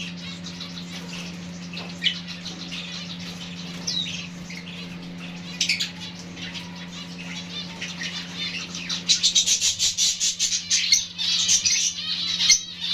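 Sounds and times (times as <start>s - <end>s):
finches chirping rapidly: 0.0s - 12.9s.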